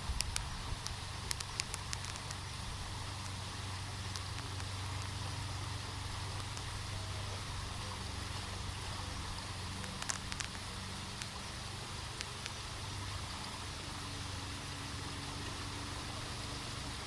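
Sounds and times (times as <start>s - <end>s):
boat motor humming: 0.0s - 17.0s
water hissing: 0.0s - 17.0s.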